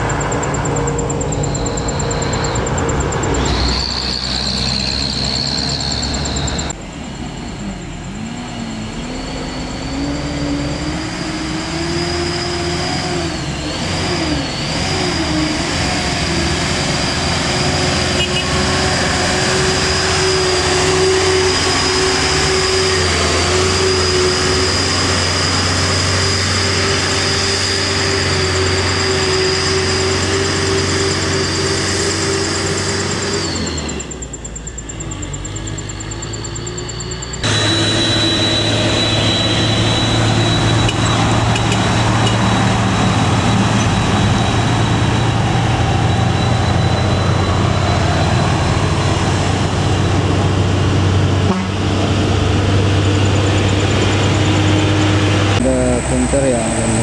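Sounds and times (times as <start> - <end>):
diesel truck engine passing: 0.0 - 57.0.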